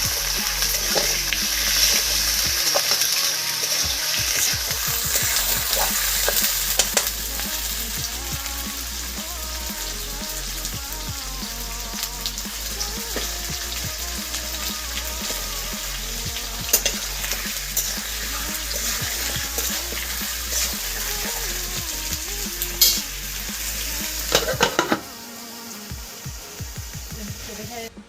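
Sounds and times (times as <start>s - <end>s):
food sizzling in a pan: 0.0s - 27.8s
background music: 0.0s - 28.0s.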